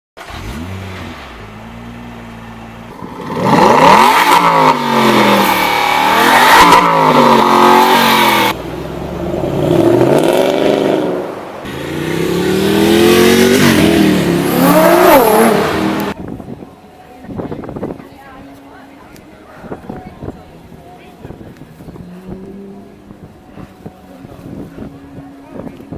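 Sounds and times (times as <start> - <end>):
sports car engine idling and revving: 0.2 - 16.2, 19.8 - 25.9.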